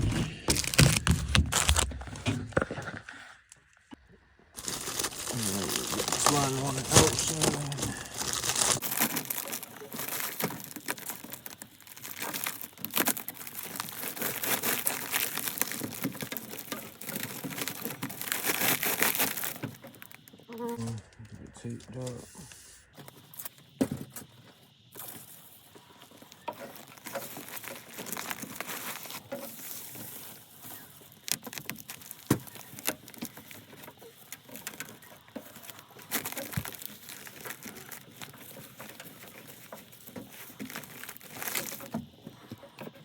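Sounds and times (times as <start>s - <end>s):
plastic crinkling and rustling: 0.0s - 3.3s, 4.6s - 21.2s, 22.9s - 43.0s.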